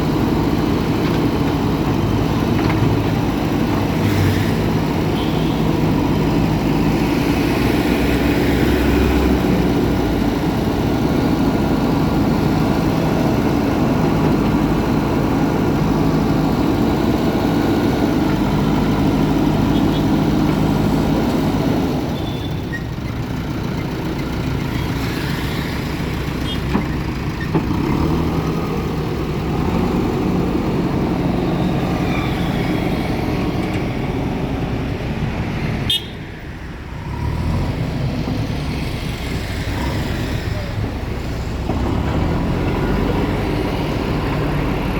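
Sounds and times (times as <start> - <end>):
heavy machinery diesel engines: 0.0 - 44.9.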